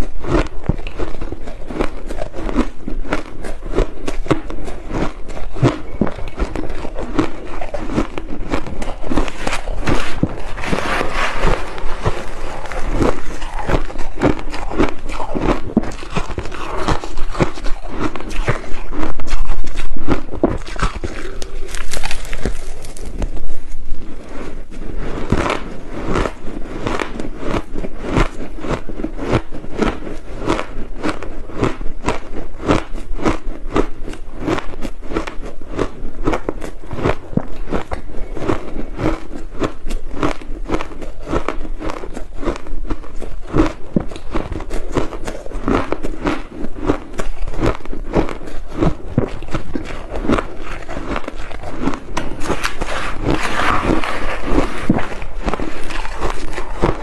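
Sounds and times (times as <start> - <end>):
crushed ice being chewed: 0.0 - 57.0.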